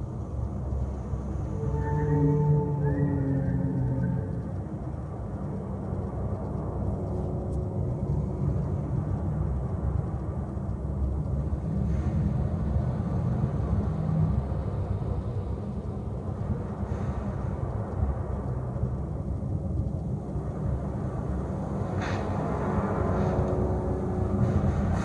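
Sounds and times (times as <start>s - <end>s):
low rumble of room noise: 0.0s - 25.0s.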